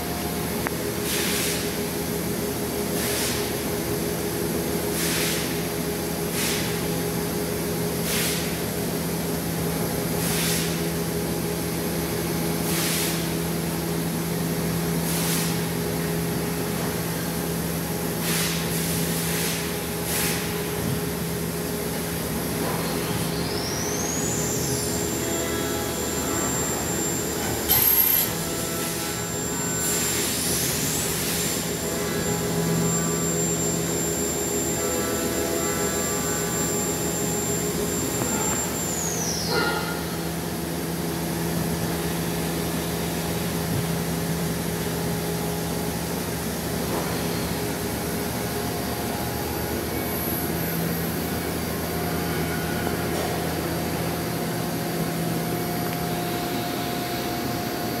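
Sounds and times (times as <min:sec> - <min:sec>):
machine mechanical hum: 0:00.0 - 0:58.0.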